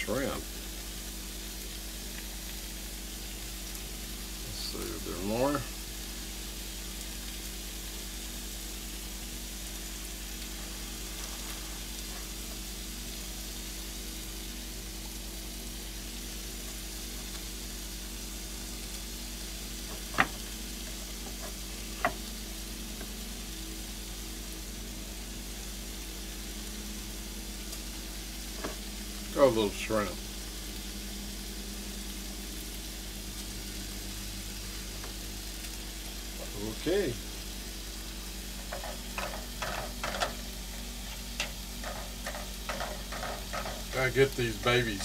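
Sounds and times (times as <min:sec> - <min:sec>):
food sizzling in frying pans: 0:00.0 - 0:45.0.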